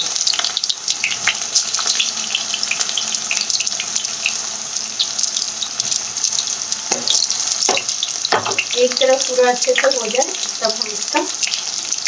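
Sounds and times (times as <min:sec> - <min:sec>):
oil crackling and popping: 0:00.0 - 0:12.0
potatoes sizzling in hot oil: 0:00.0 - 0:12.0.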